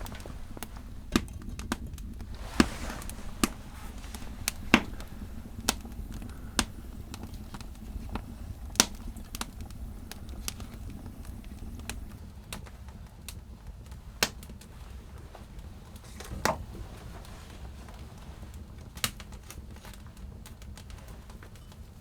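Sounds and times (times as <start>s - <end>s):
low steady fire rumble: 0.0s - 22.0s
wood fire crackling: 0.0s - 22.0s.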